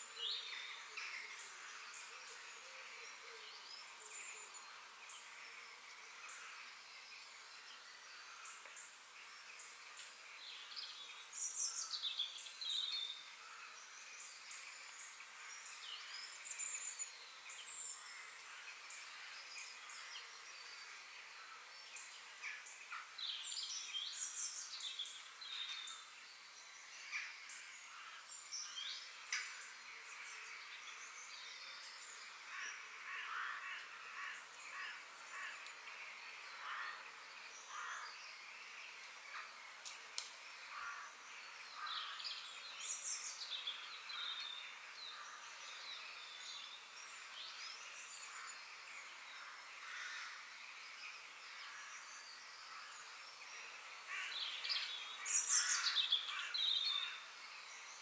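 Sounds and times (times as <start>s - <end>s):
birds chirping and singing: 0.0s - 58.0s
insects humming: 0.0s - 58.0s.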